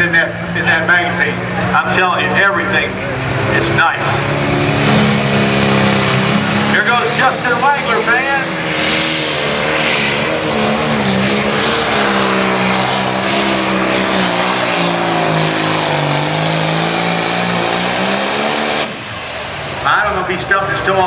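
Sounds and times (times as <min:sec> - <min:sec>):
diesel tractor engine at full throttle: 0:00.0 - 0:21.0.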